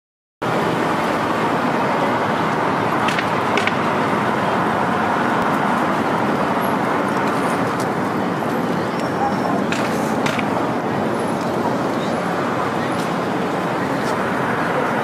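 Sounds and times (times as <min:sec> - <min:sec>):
city street traffic: 0:00.4 - 0:15.0.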